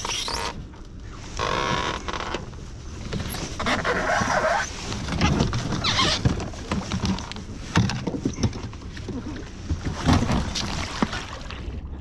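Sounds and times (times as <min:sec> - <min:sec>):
scraping and creaking: 0:01.2 - 0:10.8.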